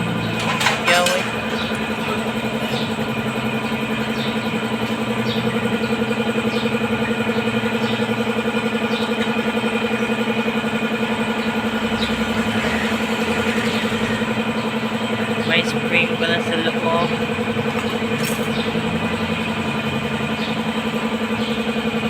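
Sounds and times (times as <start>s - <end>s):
small engine idling: 0.0s - 22.0s.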